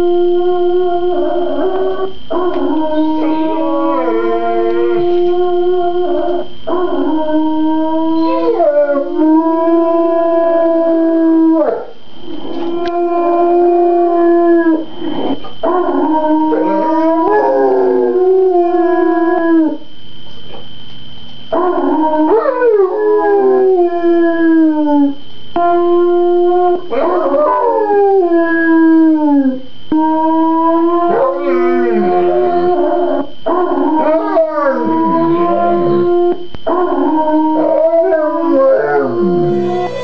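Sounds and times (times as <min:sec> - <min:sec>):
dog howling: 0:00.0 - 0:11.9, 0:12.5 - 0:19.8, 0:21.5 - 0:40.0.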